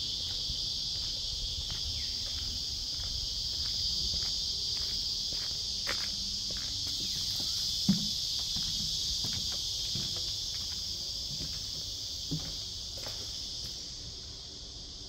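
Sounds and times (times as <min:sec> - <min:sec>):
high-pitched insect chorus: 0:00.0 - 0:15.0
footsteps on wooden boards: 0:00.3 - 0:13.8.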